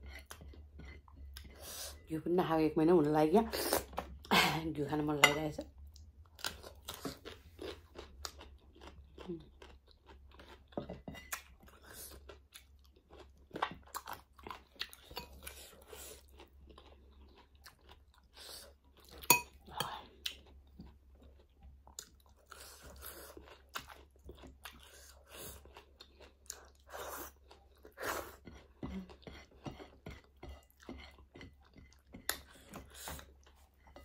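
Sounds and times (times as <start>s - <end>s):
chewing crunchy cucumber: 5.9s - 34.0s.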